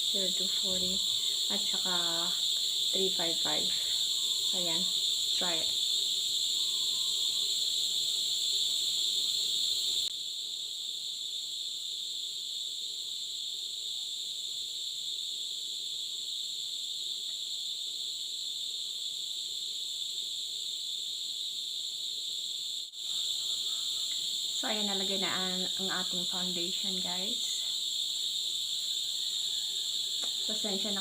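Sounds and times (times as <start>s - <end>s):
cicadas buzzing: 0.0s - 31.0s.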